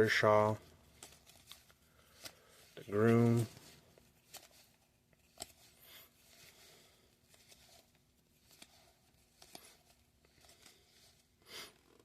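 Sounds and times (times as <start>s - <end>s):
trading cards clicking and rustling: 0.1s - 11.3s.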